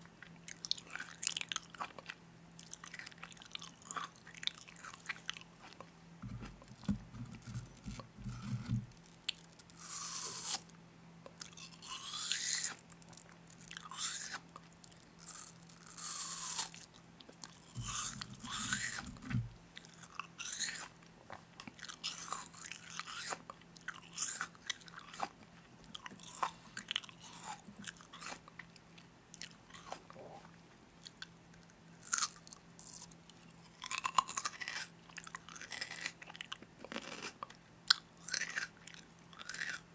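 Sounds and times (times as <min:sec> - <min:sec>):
crunching and chewing snack food: 0:00.0 - 0:39.9.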